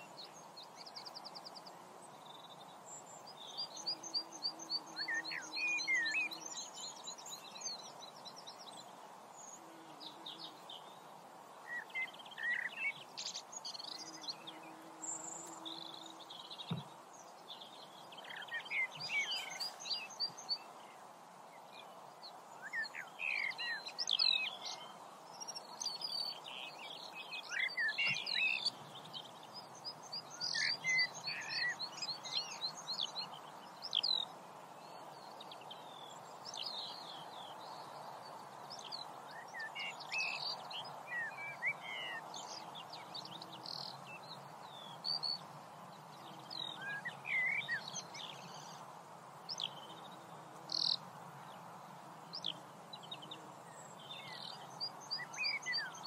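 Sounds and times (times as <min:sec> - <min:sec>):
songbirds singing: 0:00.0 - 0:56.0
steady background hiss: 0:00.0 - 0:56.0.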